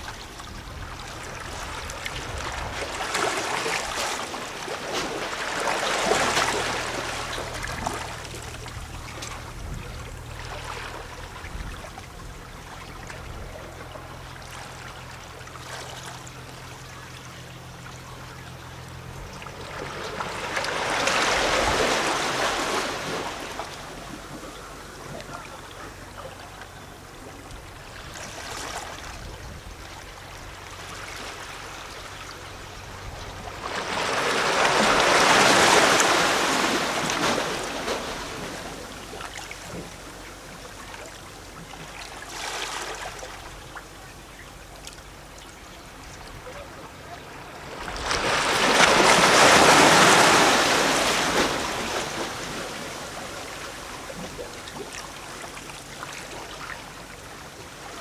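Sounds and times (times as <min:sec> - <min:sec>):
sea waves lapping against rocks: 0:00.0 - 0:58.0.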